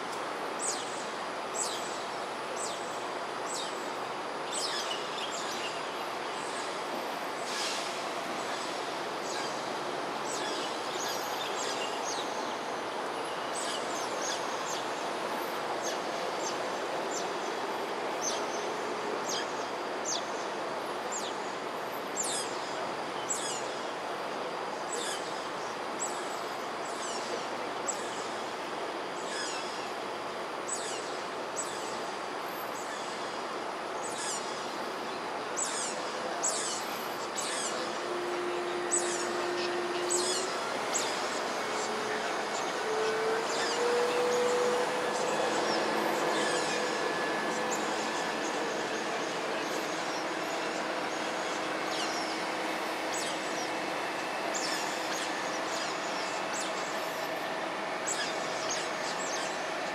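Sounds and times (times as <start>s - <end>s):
steady rushing background noise: 0.0s - 59.9s.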